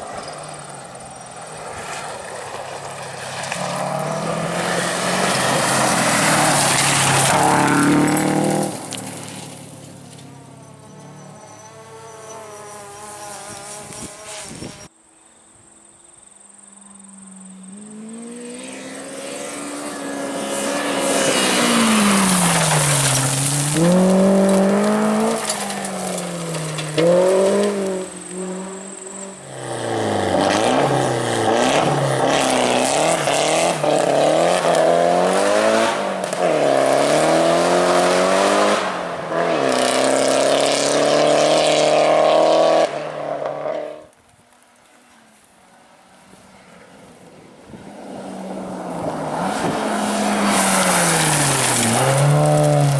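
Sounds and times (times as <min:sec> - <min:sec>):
rally car engine revving: 0:00.0 - 0:14.9, 0:17.2 - 0:44.1, 0:47.8 - 0:52.9.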